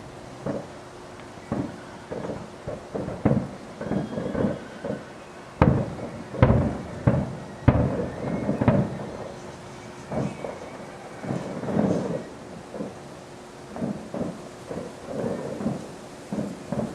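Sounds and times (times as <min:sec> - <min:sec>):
fireworks booming: 0:00.0 - 0:16.9.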